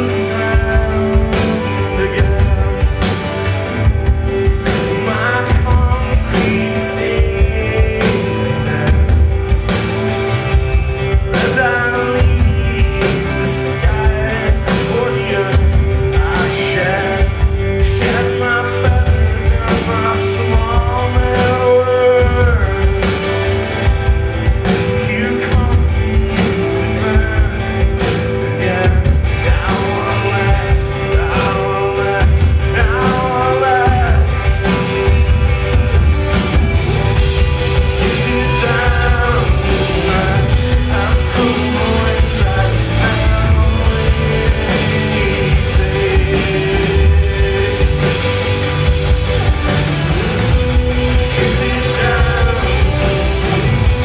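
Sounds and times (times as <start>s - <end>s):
man singing: 0.0s - 36.0s, 37.1s - 54.0s
bass guitar: 0.0s - 54.0s
distorted electric guitars: 0.0s - 54.0s
drum kit beat: 0.0s - 54.0s.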